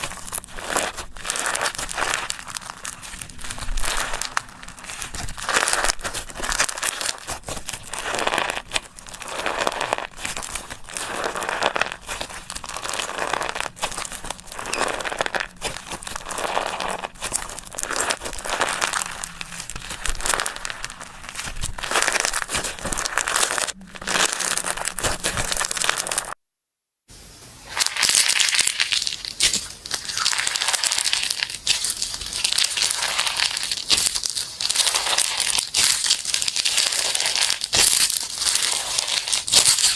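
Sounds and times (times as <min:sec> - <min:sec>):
slime crackling and popping: 0:00.0 - 0:26.4, 0:27.6 - 0:39.9.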